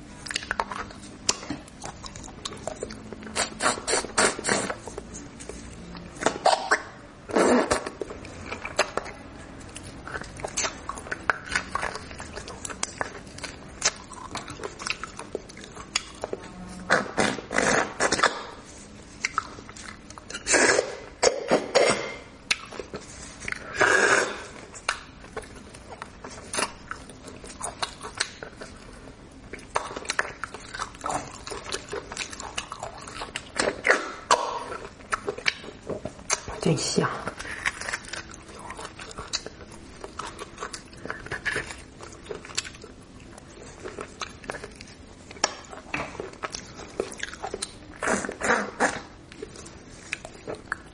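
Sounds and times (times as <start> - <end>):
wet chewing smacks and clicks: 0.2 - 50.9.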